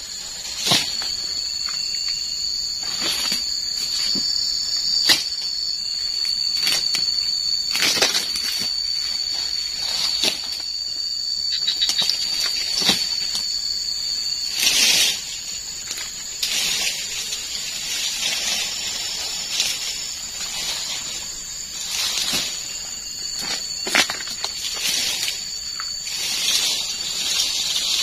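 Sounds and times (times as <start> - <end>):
palm fronds rustling and scraping: 0.0 - 28.0
steady high-pitched hiss: 0.0 - 28.0.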